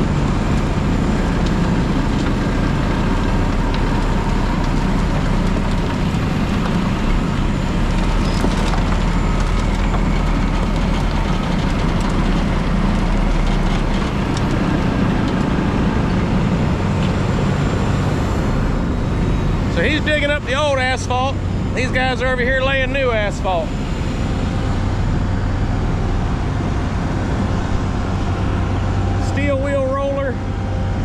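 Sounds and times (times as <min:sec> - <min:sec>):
asphalt milling machine grinding: 0:00.0 - 0:31.0.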